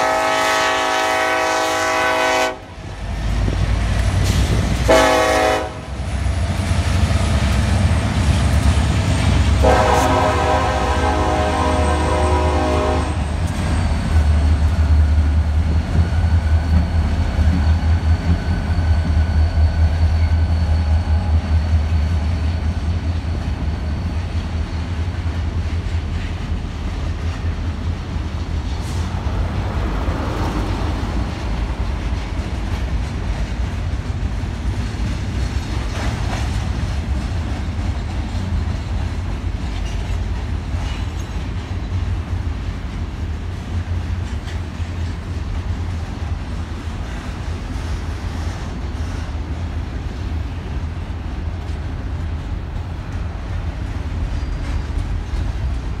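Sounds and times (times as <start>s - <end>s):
freight cars wheel-on-rail noise: 0.0s - 56.0s
locomotives rumbling past: 0.0s - 56.0s.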